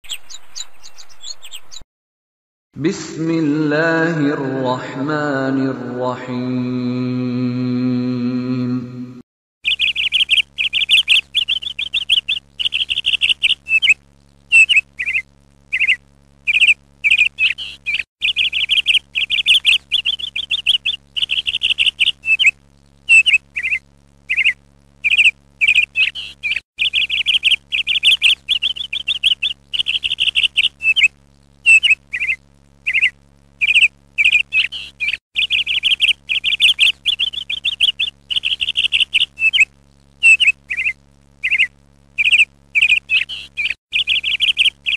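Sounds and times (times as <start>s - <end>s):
songbird trilling: 0.0s - 1.8s, 9.6s - 44.9s.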